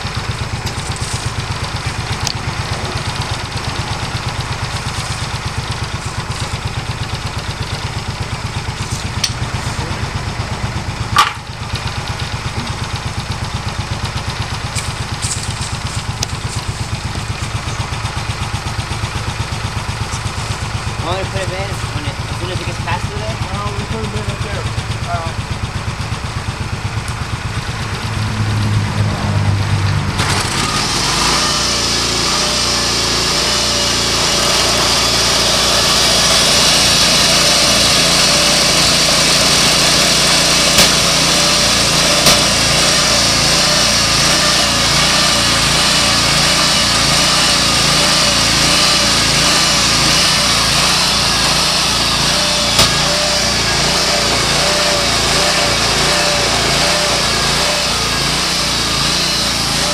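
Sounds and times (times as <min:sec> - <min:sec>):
sawmill engine drone: 0:00.0 - 0:59.9.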